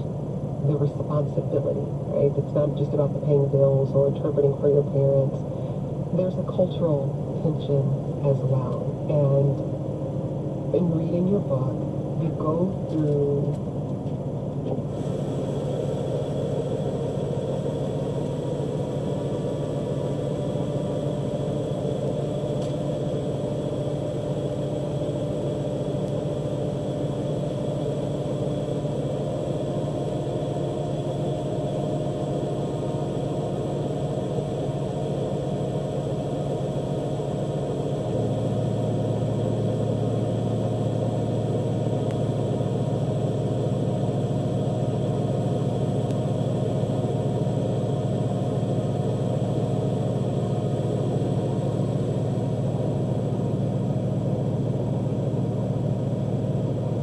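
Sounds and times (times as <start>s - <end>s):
harvester engine humming: 0.0s - 57.0s.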